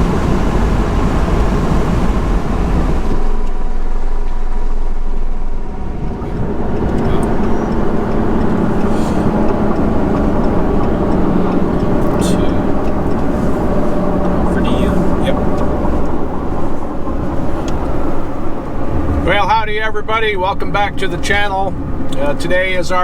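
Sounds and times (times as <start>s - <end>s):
road noise: 0.0s - 23.0s
vehicle engine hum: 0.0s - 23.0s.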